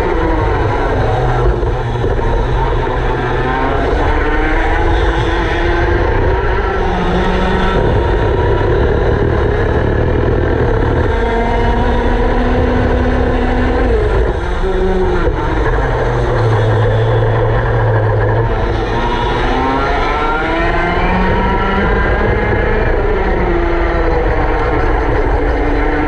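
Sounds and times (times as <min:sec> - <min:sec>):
go-kart engines racing: 0:00.0 - 0:26.0.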